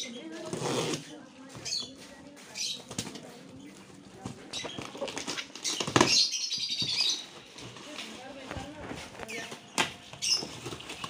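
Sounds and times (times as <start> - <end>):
plastic bags rustling: 0.2 - 11.0.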